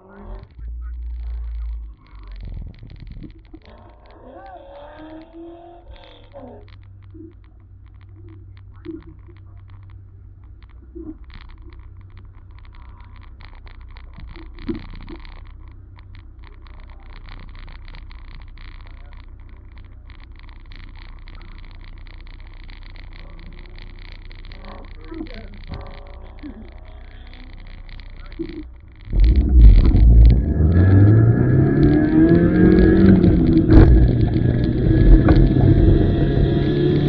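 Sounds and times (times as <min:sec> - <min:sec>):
car engine idling: 0:00.0 - 0:37.0
short clicks: 0:00.9 - 0:37.0.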